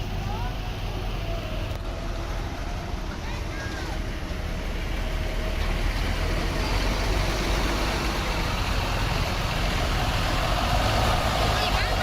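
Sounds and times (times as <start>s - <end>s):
bus engine rumbling: 0.0s - 12.0s
road noise: 0.0s - 12.0s.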